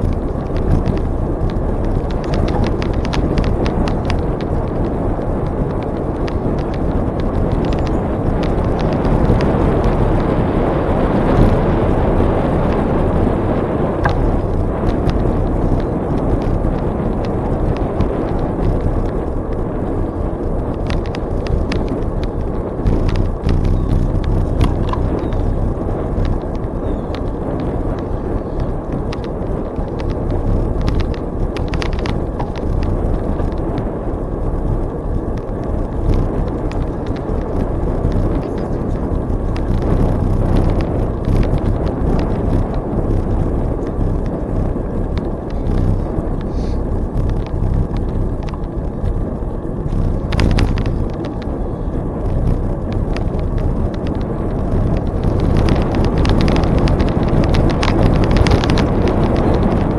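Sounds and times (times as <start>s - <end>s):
bicycle tyres rolling on trail: 0.0s - 59.9s
small clicks and ticks: 0.0s - 59.9s
wind rushing over microphone: 0.0s - 59.9s.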